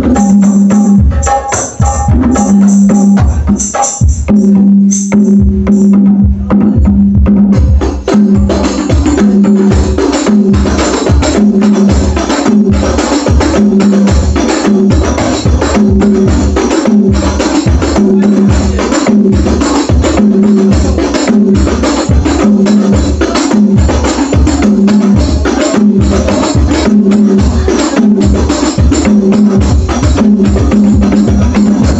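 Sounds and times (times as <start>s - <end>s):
loud music with heavy bass: 0.0s - 31.9s.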